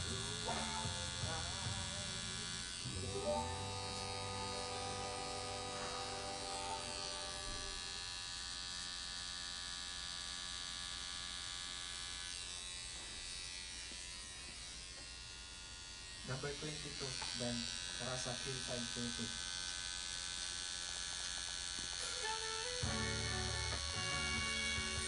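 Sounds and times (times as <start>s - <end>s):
tattoo machine buzzing: 0.0s - 25.0s.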